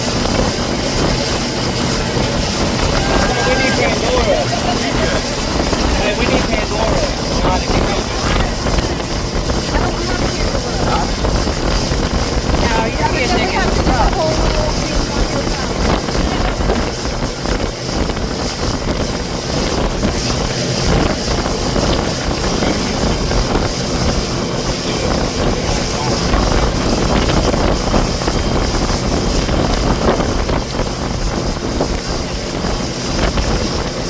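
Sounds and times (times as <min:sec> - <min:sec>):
motorboat running: 0:00.0 - 0:34.0
wind on microphone: 0:00.0 - 0:34.0.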